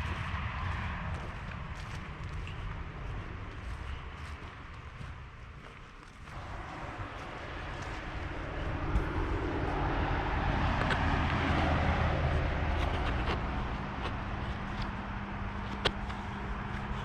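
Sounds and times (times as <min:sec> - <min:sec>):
vehicle passing by: 0:00.0 - 0:05.4, 0:06.3 - 0:17.0.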